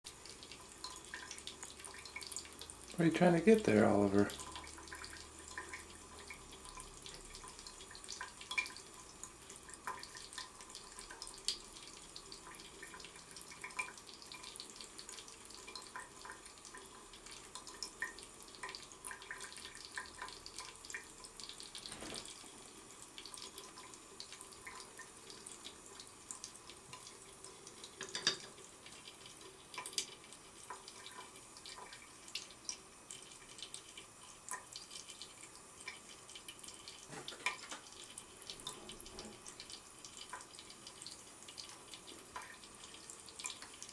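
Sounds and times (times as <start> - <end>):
water running from a tap: 0.1 - 43.9.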